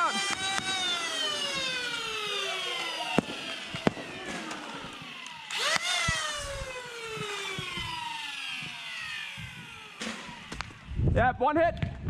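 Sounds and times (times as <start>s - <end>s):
foam blaster motors whining: 0.0s - 11.1s.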